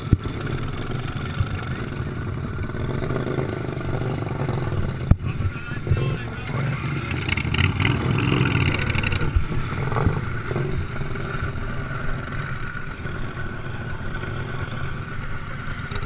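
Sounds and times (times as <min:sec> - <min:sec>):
lawn tractor engine under load: 0:00.0 - 0:16.0.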